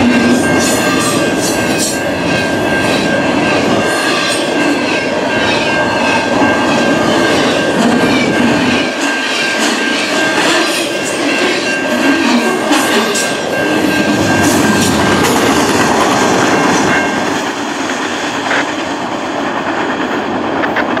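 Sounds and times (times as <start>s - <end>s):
freight train rolling past: 0.0s - 21.0s.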